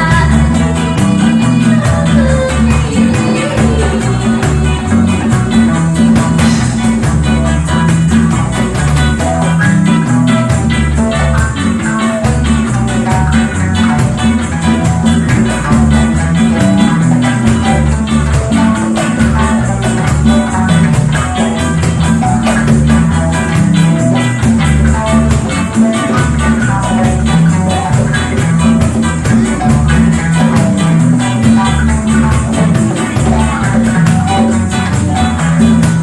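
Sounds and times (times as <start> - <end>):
bass line: 0.0 - 36.0
live band music: 0.0 - 36.0
plucked strings: 0.0 - 36.0
shaker percussion: 0.0 - 36.0.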